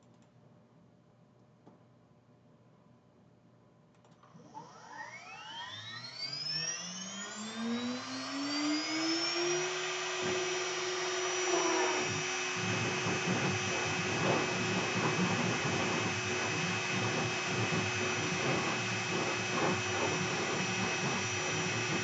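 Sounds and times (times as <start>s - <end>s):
router spindle whining: 4.3s - 22.0s.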